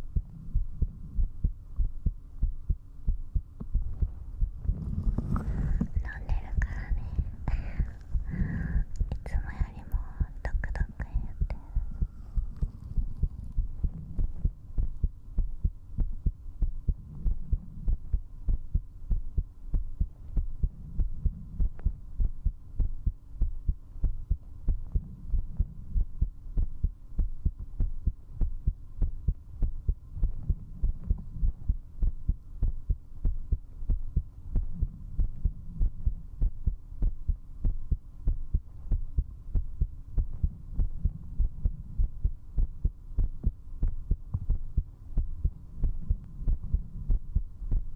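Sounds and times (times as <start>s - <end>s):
fast heartbeat: 0.0s - 47.9s.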